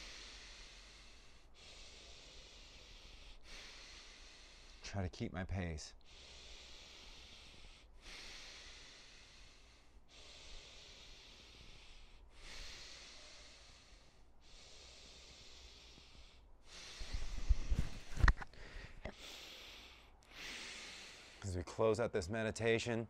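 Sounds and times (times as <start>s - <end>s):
man breathing through nose: 0.0s - 4.9s, 5.9s - 21.5s.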